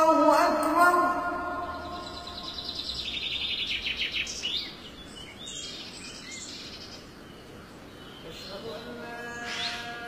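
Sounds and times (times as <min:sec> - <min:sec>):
birds chirping: 0:00.0 - 0:10.0
faint background hiss: 0:00.0 - 0:10.0.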